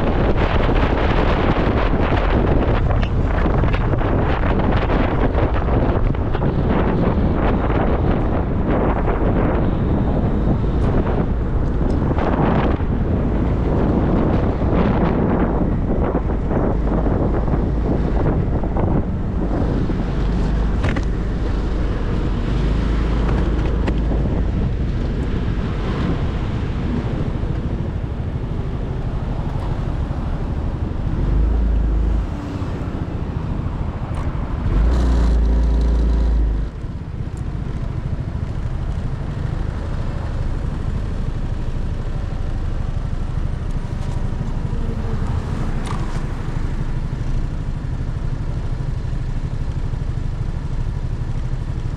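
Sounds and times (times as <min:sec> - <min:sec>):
motorcycle engine running: 0:00.0 - 0:32.3, 0:33.0 - 0:51.9
heavy low rumble: 0:00.0 - 0:51.9
wind noise on microphone: 0:00.0 - 0:51.9.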